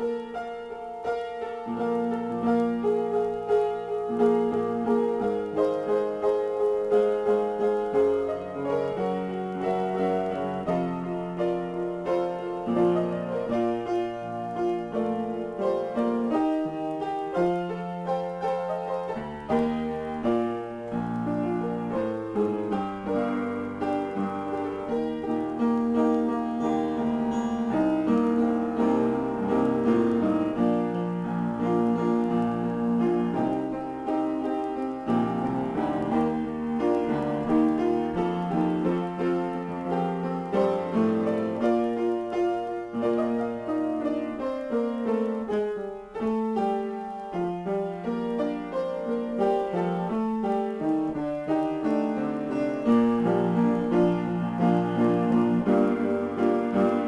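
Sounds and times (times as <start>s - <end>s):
solo piano improvisation: 0.0s - 57.0s.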